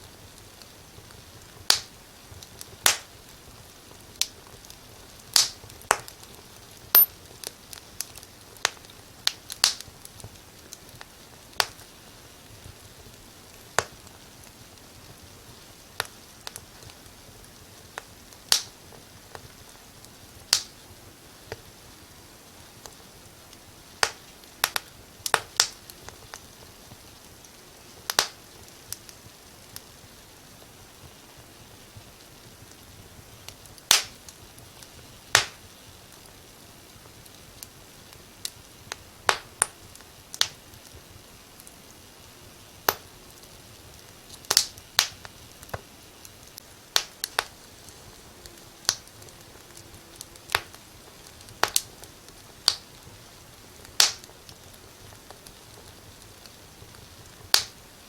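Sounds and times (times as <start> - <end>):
faint steady hiss: 0.0 - 58.0
wood fire crackling and popping: 0.0 - 58.0.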